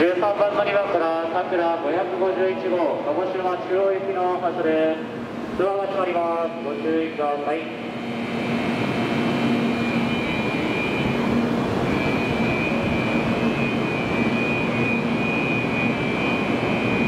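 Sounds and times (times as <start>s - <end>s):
train equipment whirring hum: 0.0s - 17.0s.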